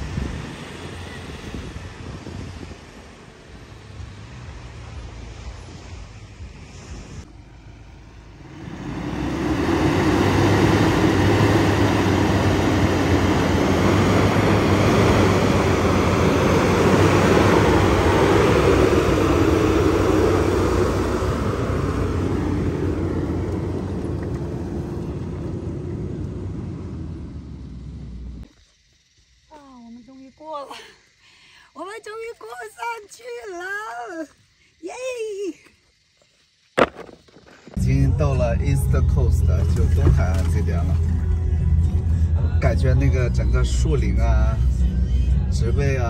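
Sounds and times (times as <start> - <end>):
pickup truck engine driving: 0.0 - 28.4, 36.8 - 46.0.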